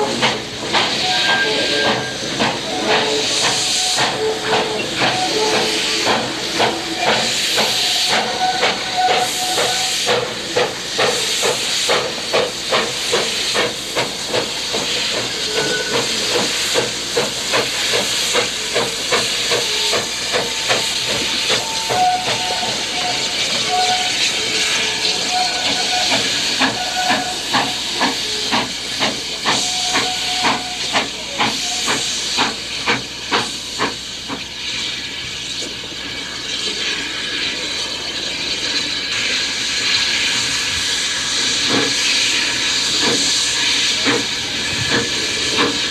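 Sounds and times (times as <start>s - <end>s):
steam hissing: 0.0s - 45.9s
steam locomotive exhaust chuffs: 0.0s - 45.9s.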